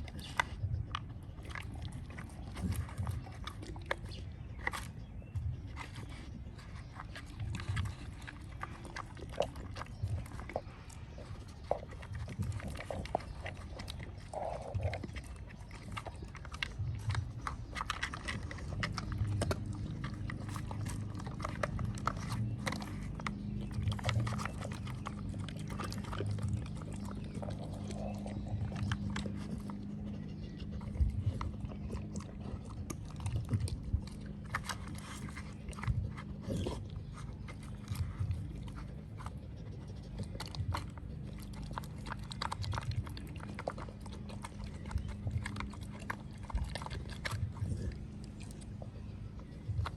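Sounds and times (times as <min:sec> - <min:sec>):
dog chewing treats: 0:00.0 - 0:49.9
steady low hum: 0:00.0 - 0:49.9.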